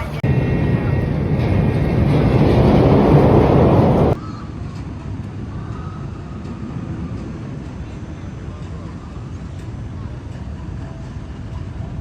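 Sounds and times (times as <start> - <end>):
roller coaster rumbling on track: 0.0 - 12.0
steady background noise: 0.0 - 12.0.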